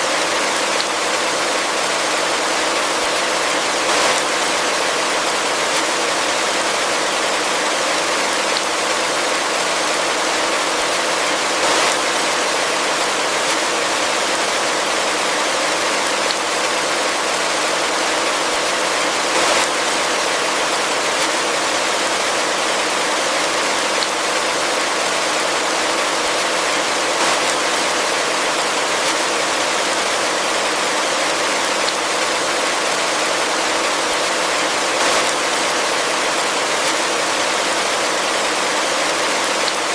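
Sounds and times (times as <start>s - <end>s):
heavy rain falling: 0.0s - 39.9s
rain spatters: 0.0s - 39.9s.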